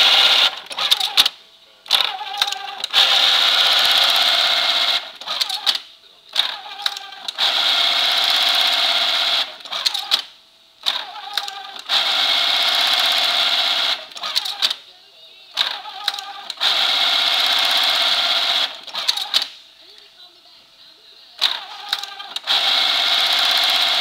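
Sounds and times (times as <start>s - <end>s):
sewing machine stitching: 0.0s - 1.3s, 1.9s - 5.8s, 6.4s - 14.8s, 15.6s - 19.5s, 21.4s - 24.0s.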